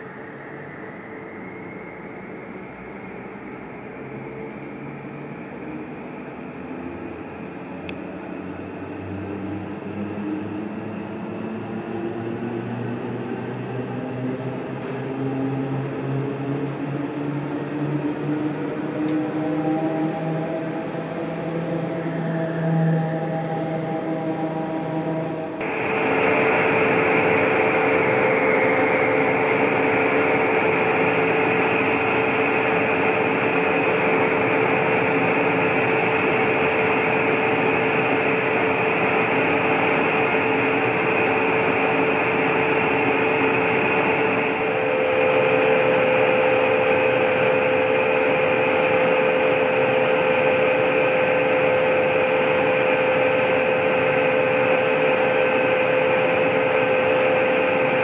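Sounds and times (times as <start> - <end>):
higher mechanical whine: 0.0 - 58.0
tramway drive machinery whirring: 0.0 - 58.0.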